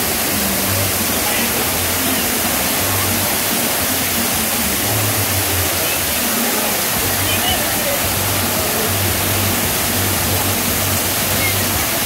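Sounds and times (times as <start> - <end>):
waterfall splashing into pool: 0.0 - 12.0.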